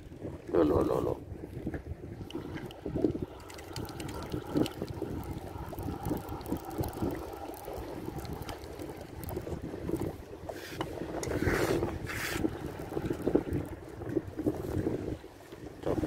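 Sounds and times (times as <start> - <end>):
water lapping against seawall: 0.0 - 16.0
wind on microphone: 0.0 - 16.0.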